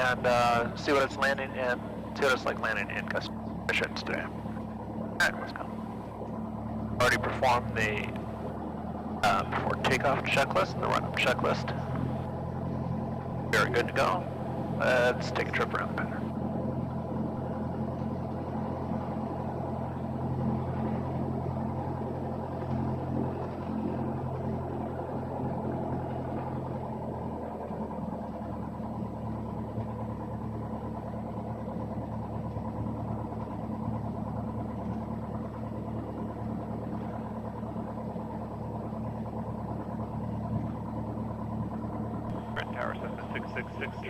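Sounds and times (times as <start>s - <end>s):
aircraft piston engine droning: 0.0s - 44.0s.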